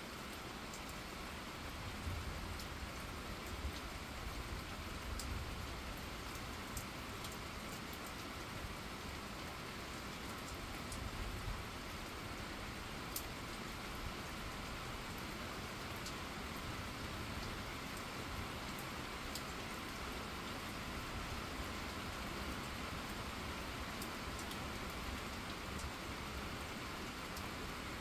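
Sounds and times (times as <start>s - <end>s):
rain falling on pavement: 0.0s - 28.0s.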